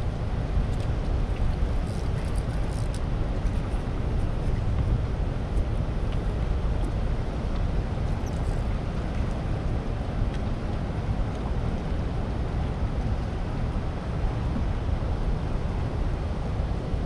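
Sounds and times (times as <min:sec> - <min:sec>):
churning water rushing: 0:00.0 - 0:17.0.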